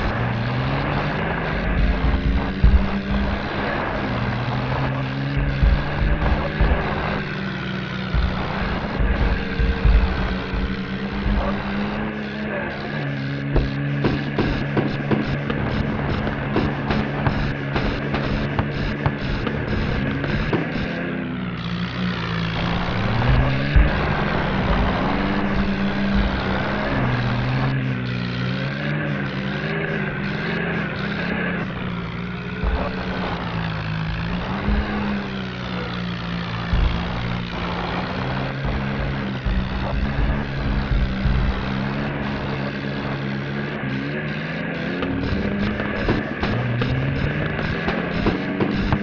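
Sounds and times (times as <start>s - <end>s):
low thumps and knocks: 0.0s - 21.0s, 21.9s - 28.0s, 30.1s - 43.5s, 45.0s - 49.0s
off-road vehicle engine: 0.0s - 49.0s.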